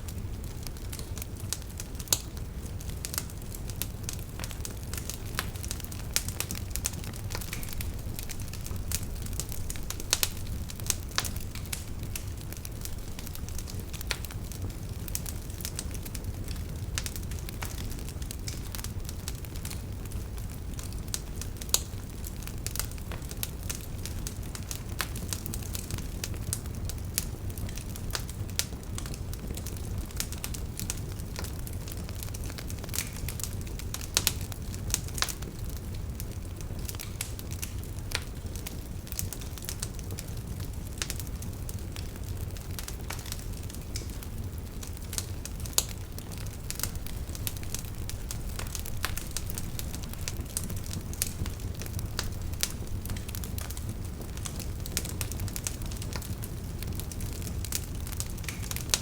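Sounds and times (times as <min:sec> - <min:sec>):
fire crackling in a fireplace: 0:00.0 - 0:59.0.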